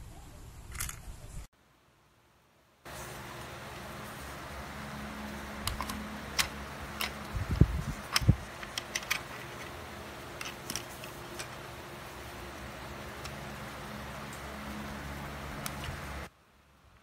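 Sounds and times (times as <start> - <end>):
low hiss and hum: 0.0 - 17.0.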